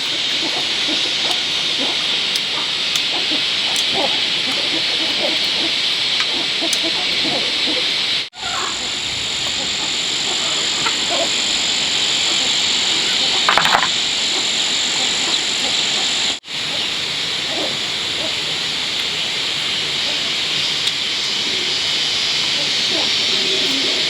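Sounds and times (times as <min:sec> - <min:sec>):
chorus of calling animals: 0:00.0 - 0:24.0.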